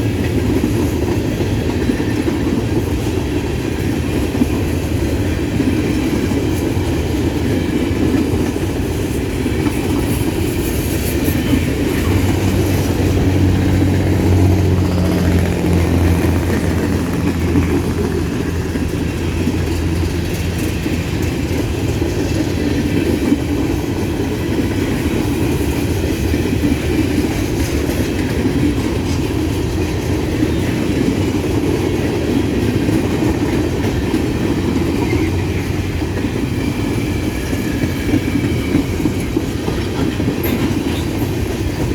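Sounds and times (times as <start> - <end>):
train cars rolling past: 0.0 - 41.9
wheel clatter over rail joints: 0.0 - 41.9.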